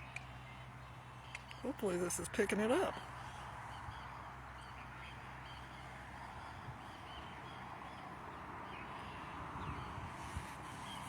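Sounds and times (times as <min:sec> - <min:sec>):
distant waterbirds calling: 0:00.0 - 0:11.0.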